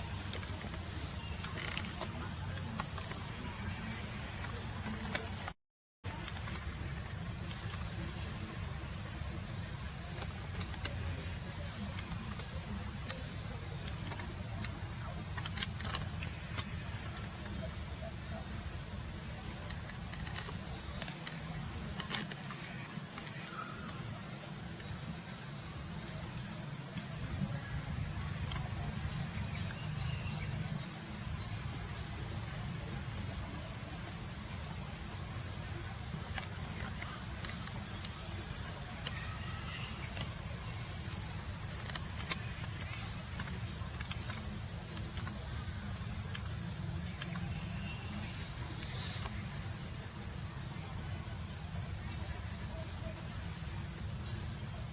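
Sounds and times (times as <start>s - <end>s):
cricket chirping trill: 6.1s - 54.9s.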